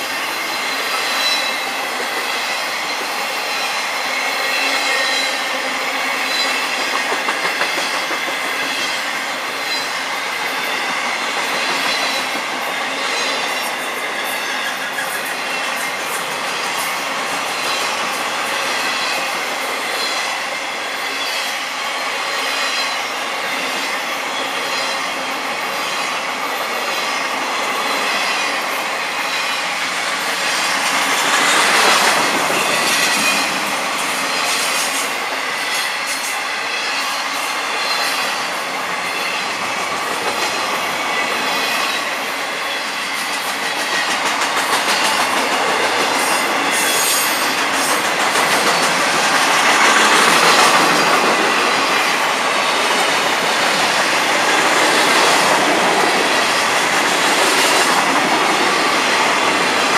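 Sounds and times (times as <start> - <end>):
steel wheels rumbling on rail: 0.0 - 59.9
clickety-clack over rail joints: 6.2 - 20.3, 23.6 - 37.0, 37.8 - 42.2, 43.0 - 59.9.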